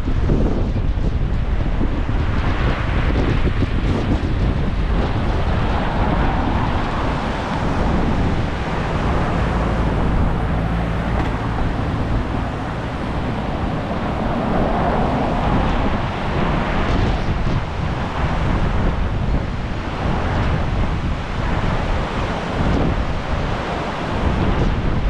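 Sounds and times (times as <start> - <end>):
storm wind on microphone: 0.0 - 25.0.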